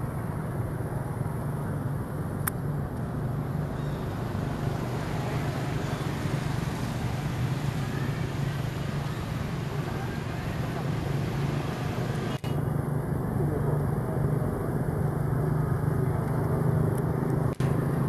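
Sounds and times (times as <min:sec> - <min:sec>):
low rumble like distant traffic: 0:00.0 - 0:18.0.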